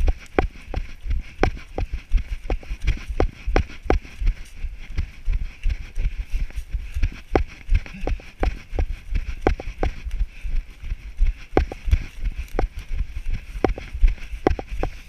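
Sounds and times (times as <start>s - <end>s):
camera bouncing rumble: 0.0s - 10.3s, 11.2s - 15.0s
running footfalls on dirt trail: 0.0s - 15.0s.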